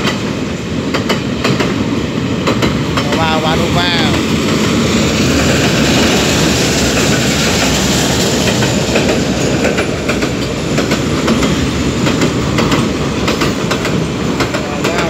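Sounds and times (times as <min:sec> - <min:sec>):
clickety-clack over rail joints: 0:00.0 - 0:15.0
train wheels rumbling on rails: 0:00.0 - 0:15.0.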